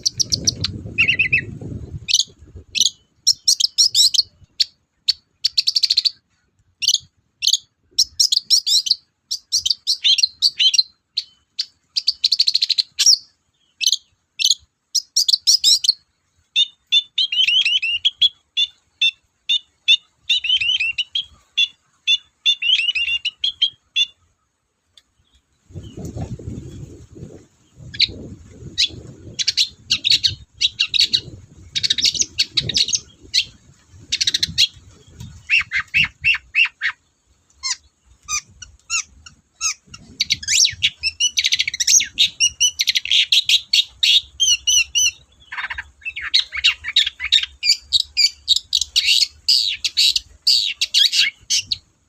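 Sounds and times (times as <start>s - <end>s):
bird singing chirps and trills: 0.0s - 24.2s, 25.0s - 51.9s.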